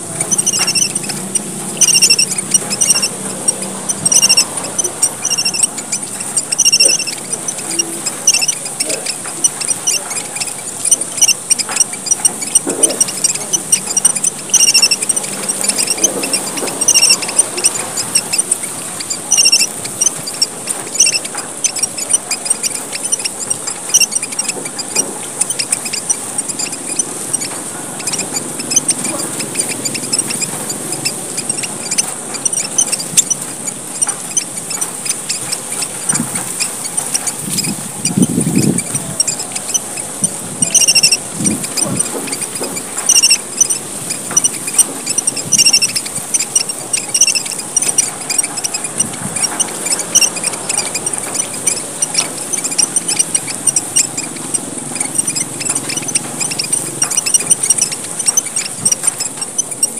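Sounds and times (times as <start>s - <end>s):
finches chirping: 0.0s - 59.9s
steady high hiss: 0.0s - 59.9s.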